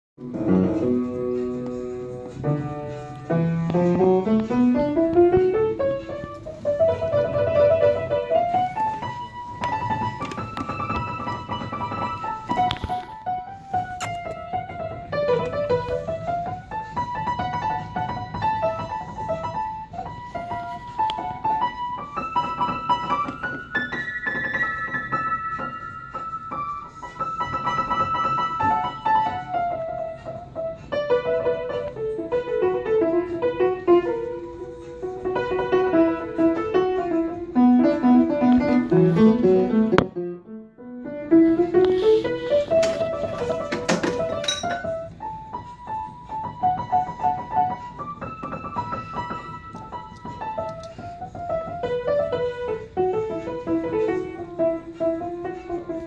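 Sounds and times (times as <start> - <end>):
piano melody over chords: 0.2 - 56.0.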